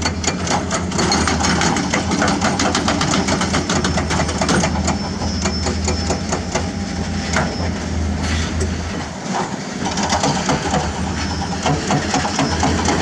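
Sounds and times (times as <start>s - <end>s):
diesel machinery engine hum: 0.0s - 13.0s.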